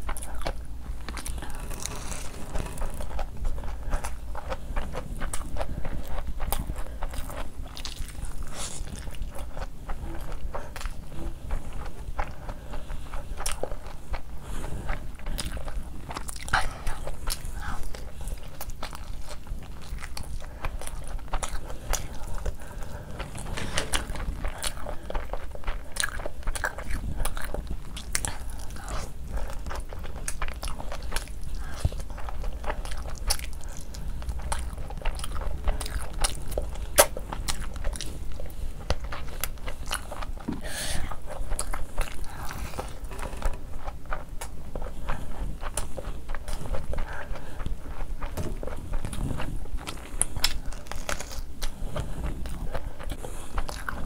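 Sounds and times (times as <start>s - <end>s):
chewing with wet smacks: 0.0s - 54.0s.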